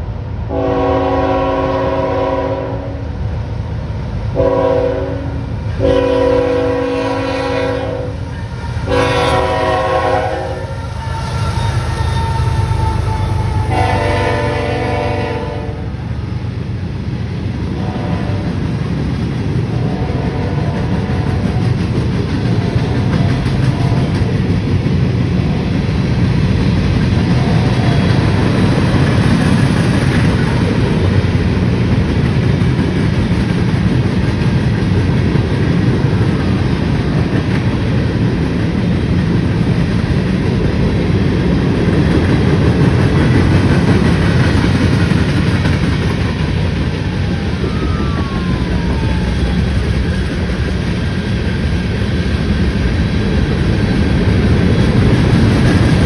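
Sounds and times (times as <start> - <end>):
train rumbling over rails: 0.0 - 56.0.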